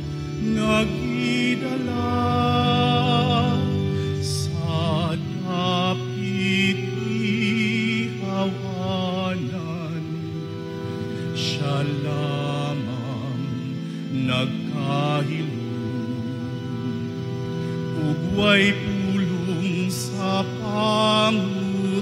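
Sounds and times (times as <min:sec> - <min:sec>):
choir singing: 0:00.0 - 0:22.0
electronic keyboard chords: 0:00.0 - 0:22.0.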